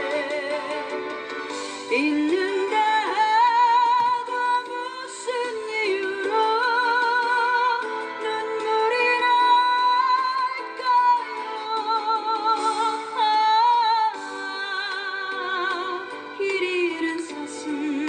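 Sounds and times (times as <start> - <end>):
slow ballad music: 0.0 - 18.0.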